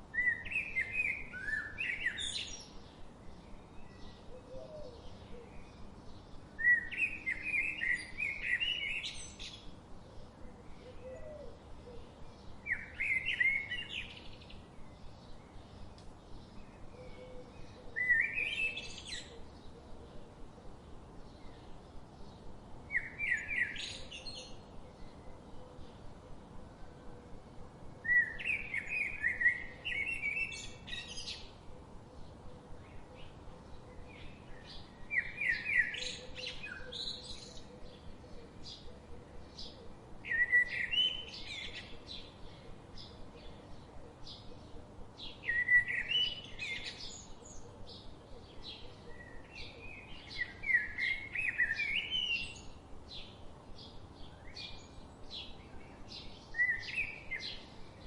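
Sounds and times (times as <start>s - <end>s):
bird warbling song: 0.1s - 20.2s, 21.2s - 26.4s, 28.0s - 58.0s.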